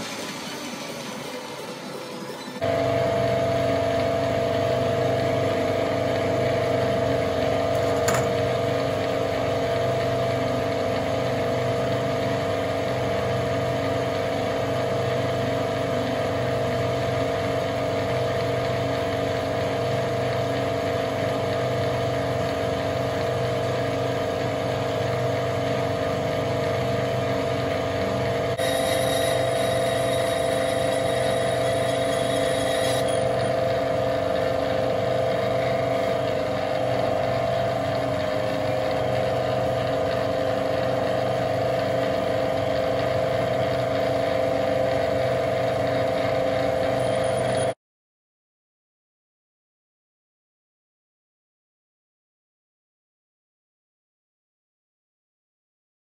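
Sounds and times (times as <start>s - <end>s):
metal lathe humming and whining: 0.0s - 47.8s.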